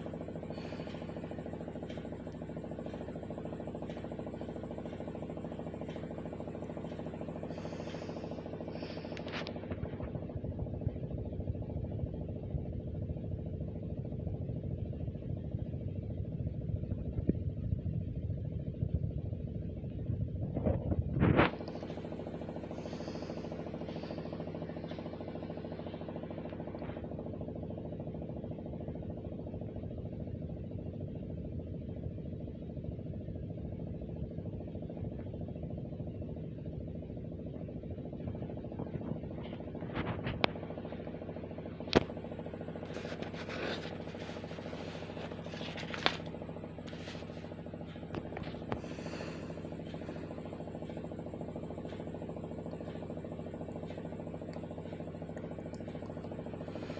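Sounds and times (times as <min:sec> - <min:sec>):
low hum: 0:00.0 - 0:56.9.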